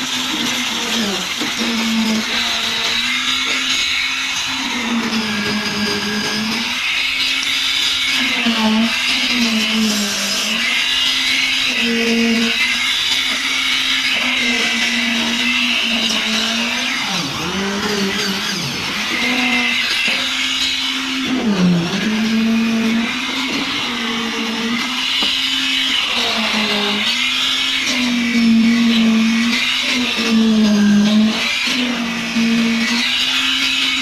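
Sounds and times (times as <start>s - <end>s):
concrete vibrator humming: 0.0s - 34.0s.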